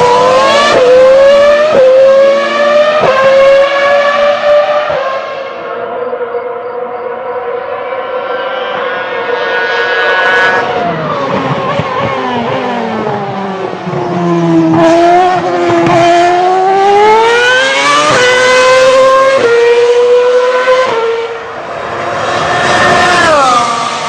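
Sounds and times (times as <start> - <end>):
racing engine at high revs: 0.0 - 24.0.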